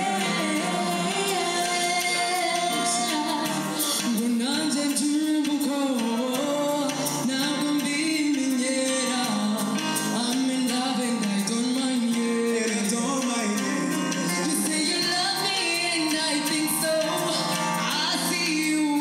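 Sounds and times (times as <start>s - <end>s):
amplified backing music: 0.0s - 19.0s
woman singing into microphone: 0.0s - 19.0s.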